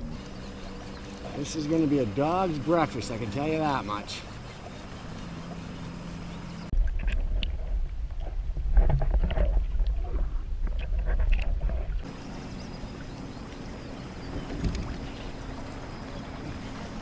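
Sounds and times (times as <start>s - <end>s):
water splashing around kayak: 0.0s - 17.0s.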